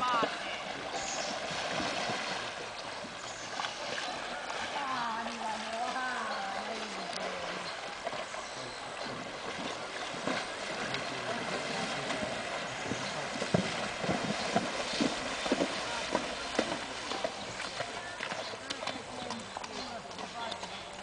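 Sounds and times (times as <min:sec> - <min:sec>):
horse hooves splashing water: 0:00.0 - 0:21.0.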